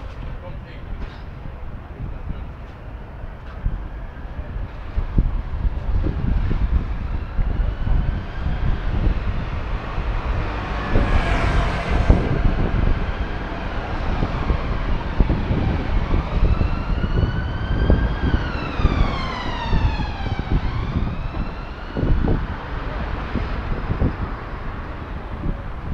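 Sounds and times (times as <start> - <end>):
road traffic rumbling: 0.0 - 25.9
emergency vehicle siren wailing: 3.1 - 25.9.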